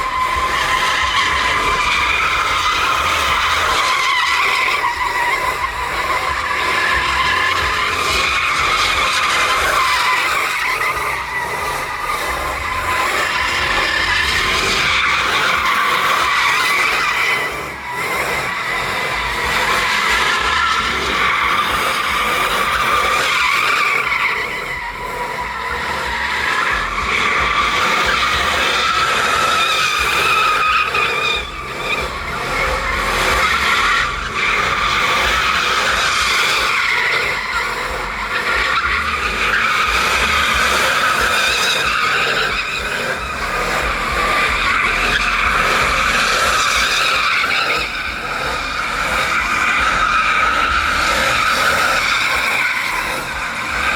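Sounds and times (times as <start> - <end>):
tires squealing: 0.0 - 53.9
truck engine at high revs: 0.0 - 53.9.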